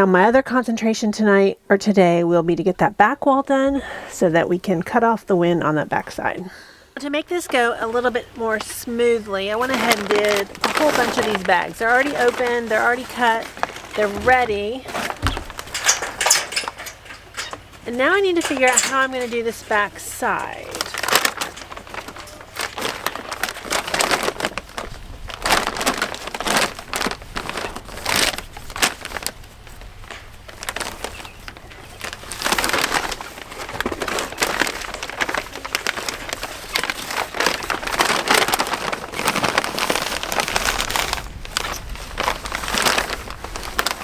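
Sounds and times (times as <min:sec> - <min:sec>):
plastic sacks crinkling: 0:05.6 - 0:44.0.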